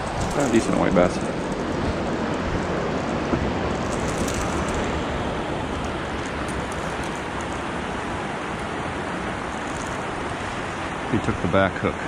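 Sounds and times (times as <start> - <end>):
river water rushing through rapids: 0.0 - 12.0.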